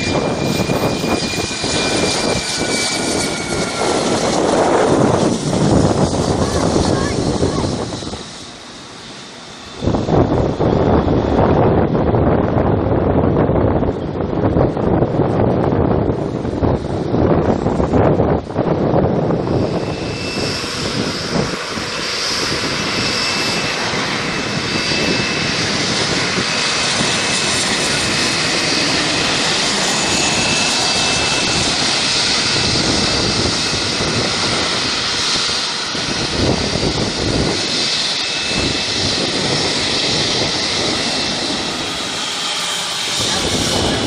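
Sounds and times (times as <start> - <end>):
jet engines rushing: 0.0 - 44.0.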